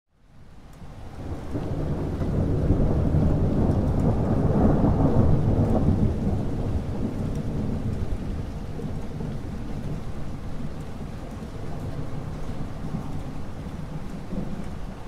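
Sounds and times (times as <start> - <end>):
rain falling: 0.1 - 15.0
thunder rumbling: 0.9 - 15.0.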